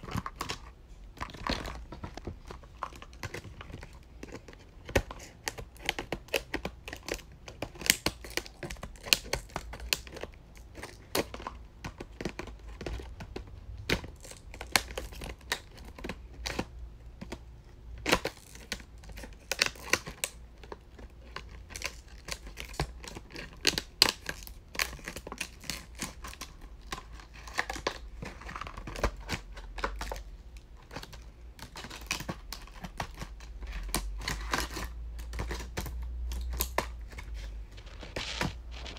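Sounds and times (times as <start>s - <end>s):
packaging crinkling and tearing: 0.0s - 16.7s, 18.0s - 38.9s.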